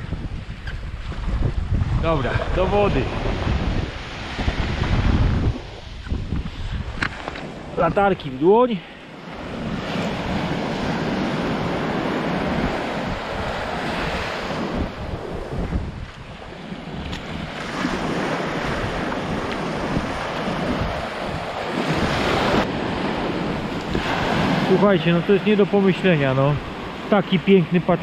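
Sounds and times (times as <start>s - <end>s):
wind buffeting microphone: 0.0s - 28.0s
surf breaking on sand: 1.0s - 7.2s, 9.2s - 28.0s.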